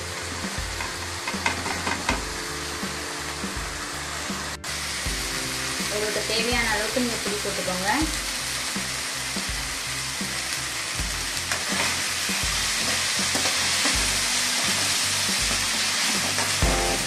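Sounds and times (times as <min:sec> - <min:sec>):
music with bass beat: 0:00.0 - 0:05.8, 0:06.4 - 0:07.4, 0:08.0 - 0:17.0
food sizzling in oil: 0:00.0 - 0:17.0.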